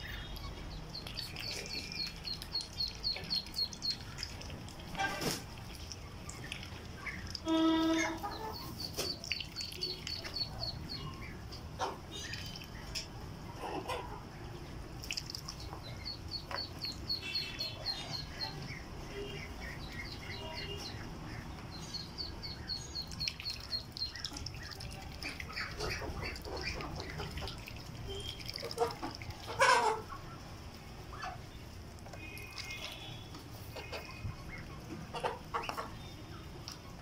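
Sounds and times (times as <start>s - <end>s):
chicks and ducklings peeping: 0.0s - 37.0s.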